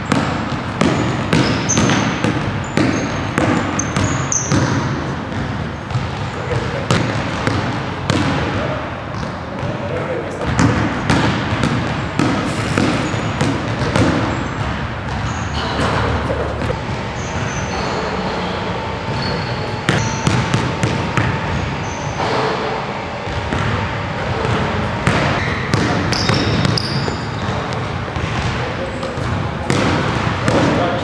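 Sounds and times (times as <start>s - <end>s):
basketball bouncing on wooden floor: 0.0s - 9.8s, 10.4s - 17.8s, 19.1s - 22.0s, 23.3s - 31.0s
sneaker squeaks: 0.0s - 31.0s.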